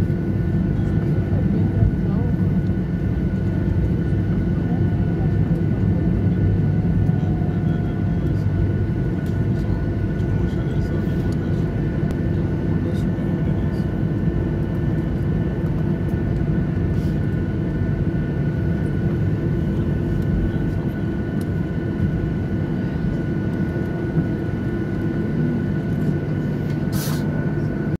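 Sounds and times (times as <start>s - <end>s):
airliner engine low rumble: 0.0s - 27.9s.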